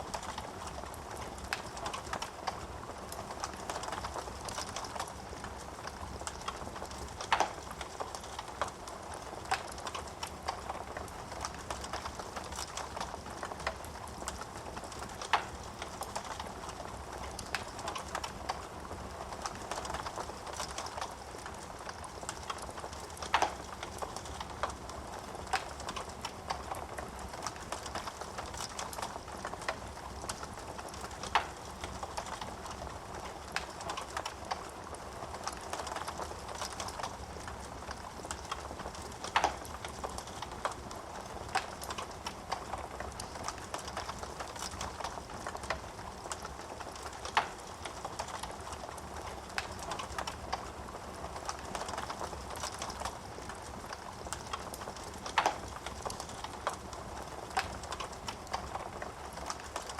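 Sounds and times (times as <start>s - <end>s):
fireplace flames hissing: 0.0s - 59.9s
wood fire crackles and pops: 0.0s - 59.9s.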